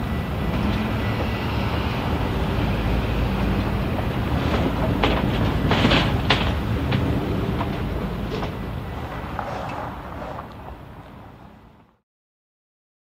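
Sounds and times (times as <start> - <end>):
pickup truck passing: 0.0 - 11.8
wind buffeting microphone: 0.0 - 11.9
diesel locomotive rumbling: 0.0 - 12.0.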